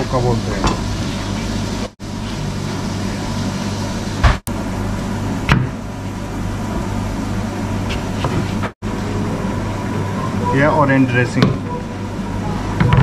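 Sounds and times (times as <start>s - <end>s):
kitchen ventilation hum: 0.0s - 13.0s.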